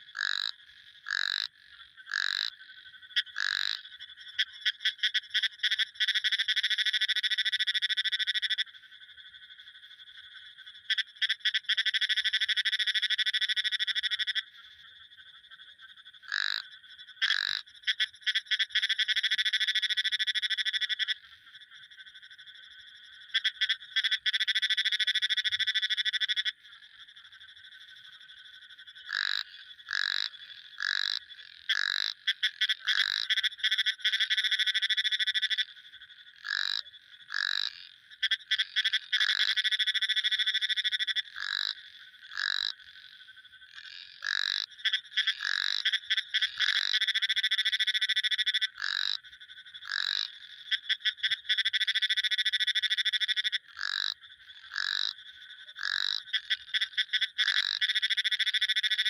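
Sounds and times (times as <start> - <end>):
frog single croaks: 0.0 - 59.0
frogs trilling: 0.0 - 59.0.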